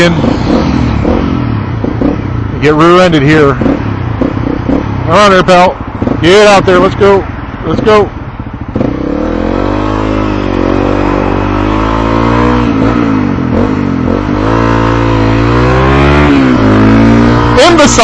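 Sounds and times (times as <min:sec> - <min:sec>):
motorcycle engine accelerating: 0:00.0 - 0:18.0
road and wind noise: 0:00.0 - 0:18.0.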